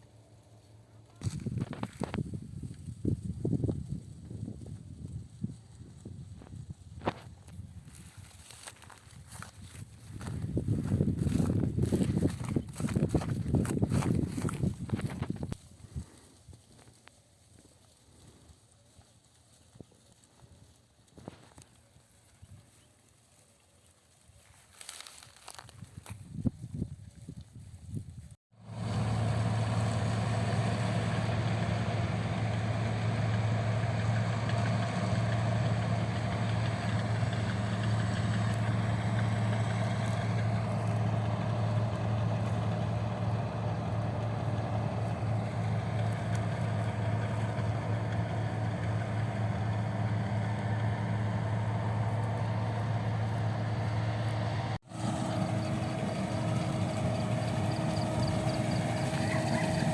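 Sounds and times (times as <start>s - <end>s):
engine humming: 0.0s - 24.2s, 28.6s - 59.9s.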